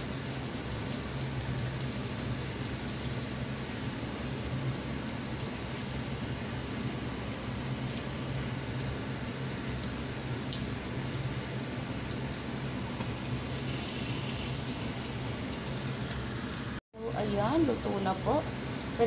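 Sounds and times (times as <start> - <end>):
chicken sizzling in frying pan: 0.0 - 16.8.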